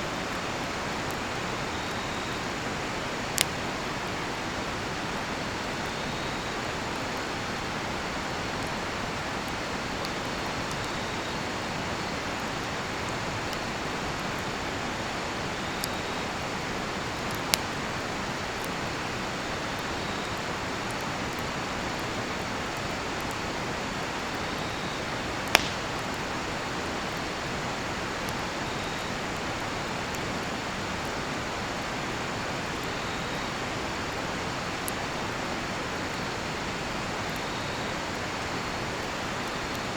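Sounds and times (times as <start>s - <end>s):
campfire popping: 0.0s - 39.9s
crickets chirping: 0.0s - 39.9s
river flowing: 0.0s - 39.9s.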